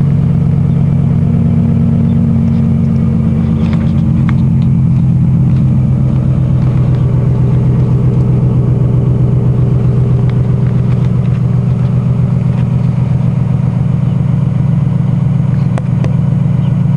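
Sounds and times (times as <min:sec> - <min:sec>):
truck engine idling: 0:00.0 - 0:16.9.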